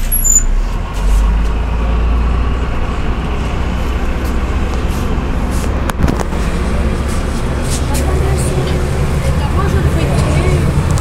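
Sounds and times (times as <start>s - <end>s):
diesel bus engine rumble: 0.0s - 11.0s.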